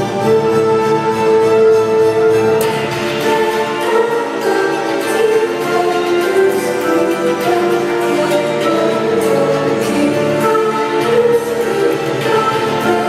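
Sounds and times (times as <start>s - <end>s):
orchestral music over loudspeakers: 0.0s - 13.0s.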